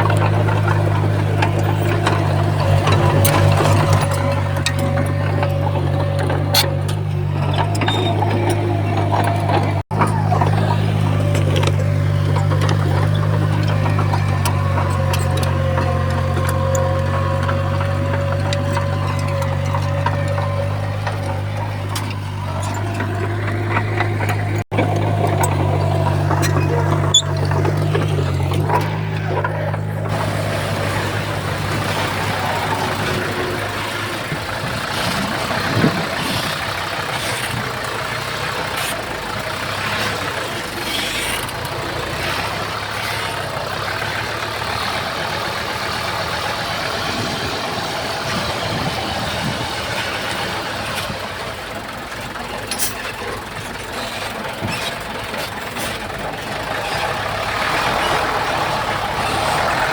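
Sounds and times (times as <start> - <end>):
diesel machinery engines running: 0.0 - 59.9.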